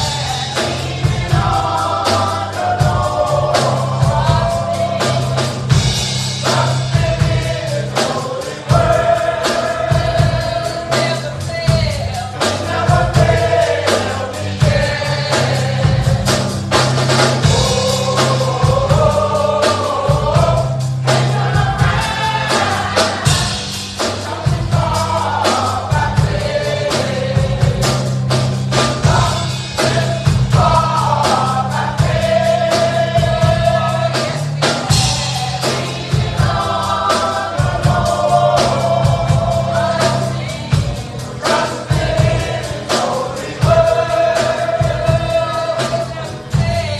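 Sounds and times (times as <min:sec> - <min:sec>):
bass: 0:00.0 - 0:46.9
choir singing in harmony: 0:00.0 - 0:46.9
drums: 0:00.0 - 0:46.9.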